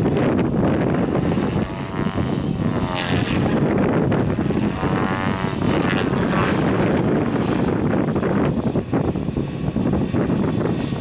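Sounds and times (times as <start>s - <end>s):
rc helicopter rotor and motor whine: 0.0s - 11.0s
wind rumble on microphone: 0.0s - 11.0s.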